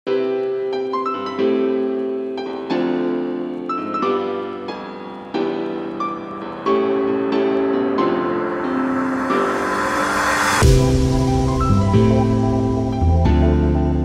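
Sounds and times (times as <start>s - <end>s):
piano chords: 0.1s - 14.0s.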